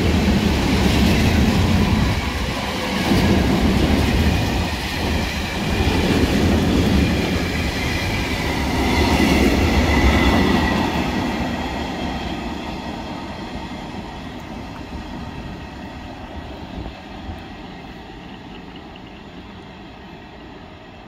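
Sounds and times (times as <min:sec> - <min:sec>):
train wagons rolling on rails: 0:00.0 - 0:21.0.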